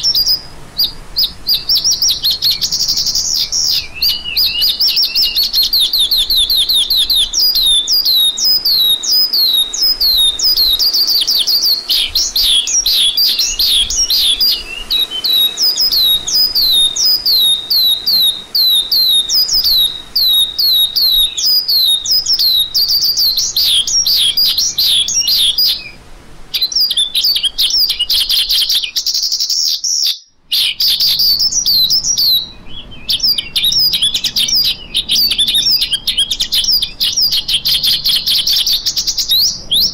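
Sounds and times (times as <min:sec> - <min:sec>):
lark singing: 0:00.0 - 0:39.9.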